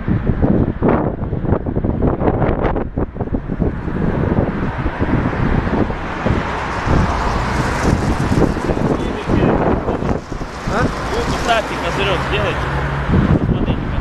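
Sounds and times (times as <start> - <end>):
roadside traffic noise: 0.0 - 14.0
wind buffeting microphone: 0.0 - 14.0.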